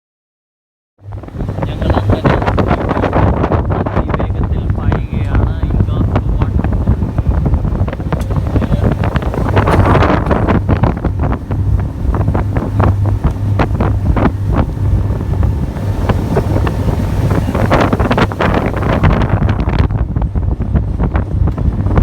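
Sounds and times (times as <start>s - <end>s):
speed boat engine drone: 1.0s - 22.0s
wind gusting on microphone: 1.0s - 22.0s.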